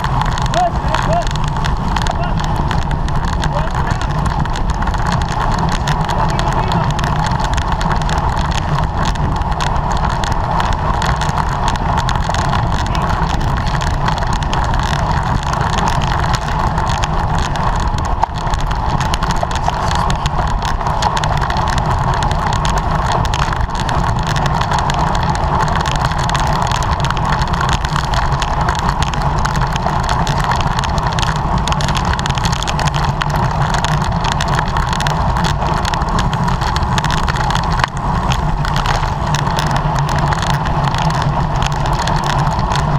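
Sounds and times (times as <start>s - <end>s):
road noise low rumble: 0.0s - 42.9s
wind rush: 0.0s - 42.9s.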